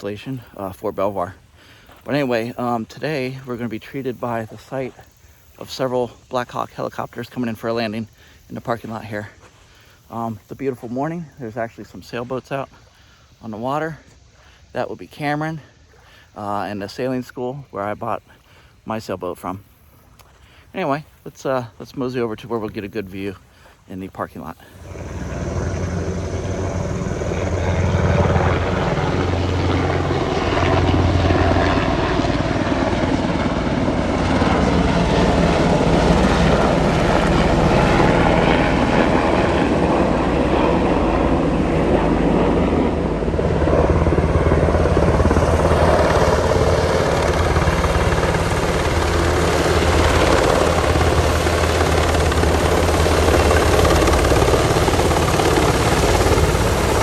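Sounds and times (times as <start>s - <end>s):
helicopter rotor and turbine noise: 0.0s - 57.0s.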